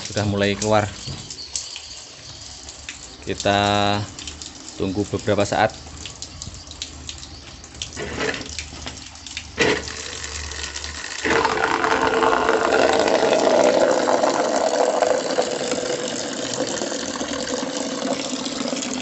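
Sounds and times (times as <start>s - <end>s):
water gushing and splashing: 2.3s - 19.0s
water pouring into plastic bucket: 3.4s - 19.0s.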